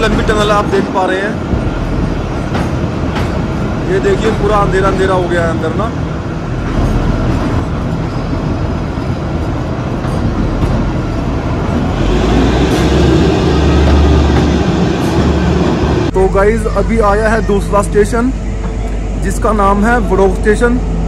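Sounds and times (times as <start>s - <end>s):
train wheels on rails in tunnel: 0.0s - 21.0s.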